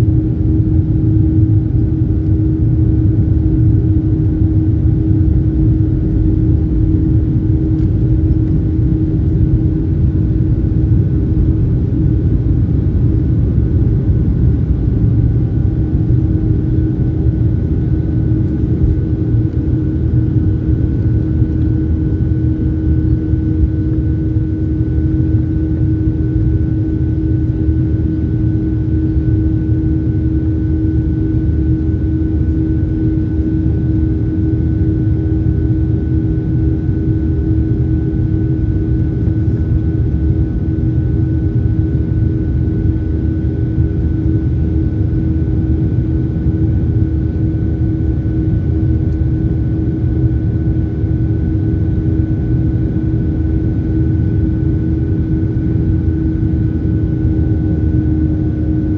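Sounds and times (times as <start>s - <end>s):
jet engines rumbling in cabin: 0.0s - 58.9s.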